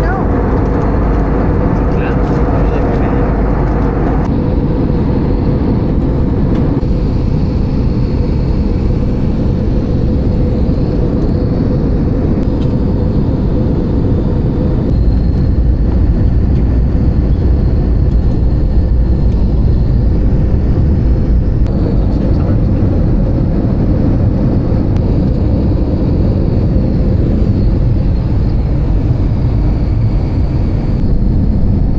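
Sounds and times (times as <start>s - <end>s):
airliner cabin rumble: 0.0s - 31.9s
constant hum: 0.0s - 31.9s.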